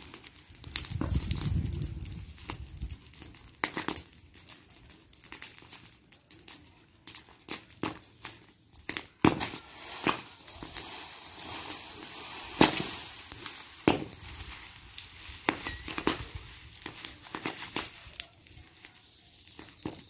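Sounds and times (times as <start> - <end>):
fire crackling and popping: 0.0 - 20.0
sticks rustling and scraping: 0.0 - 20.0.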